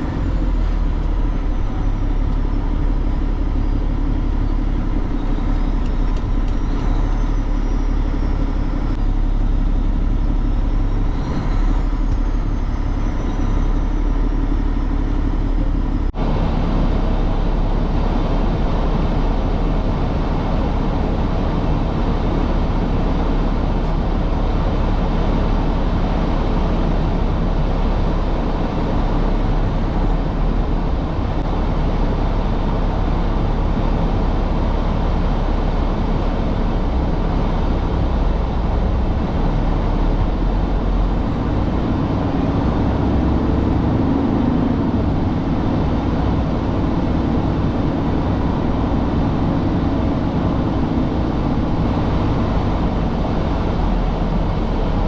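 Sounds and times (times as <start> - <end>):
truck engine hum: 0.0 - 55.0
tyre and road noise: 0.0 - 55.0.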